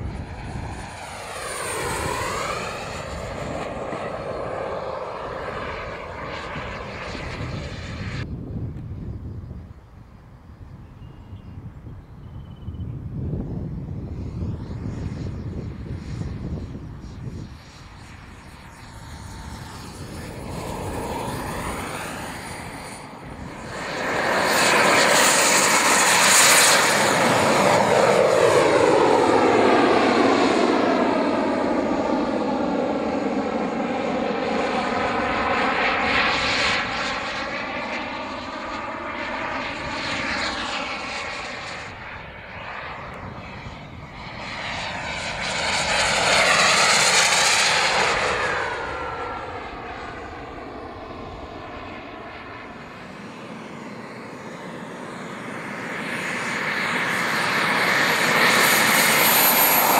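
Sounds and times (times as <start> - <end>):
model jet engine whining: 0.0 - 59.9.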